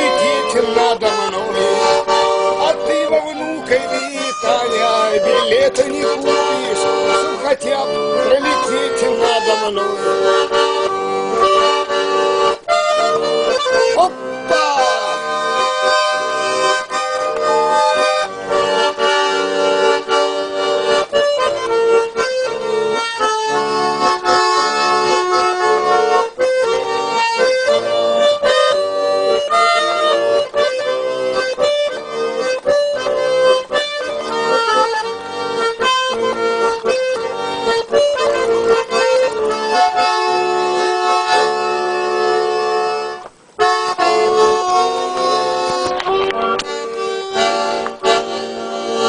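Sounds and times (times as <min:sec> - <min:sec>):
accordion playing: 0:00.0 - 0:49.0.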